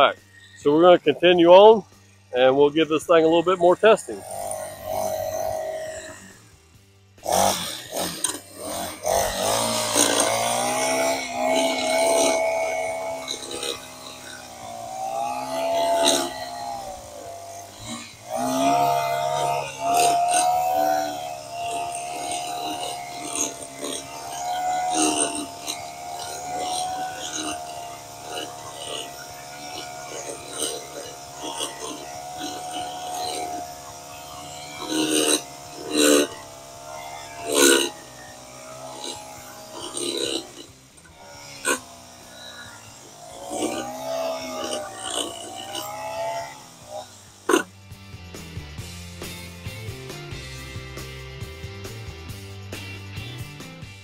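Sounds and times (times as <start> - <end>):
edger engine running: 0.0 - 54.0.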